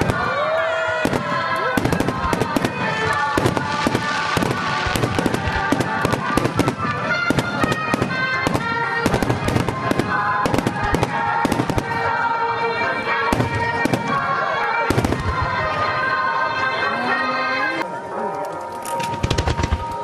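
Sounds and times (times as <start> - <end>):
fireworks bursting: 0.0 - 16.5, 19.0 - 20.0
music with held notes: 0.0 - 20.0.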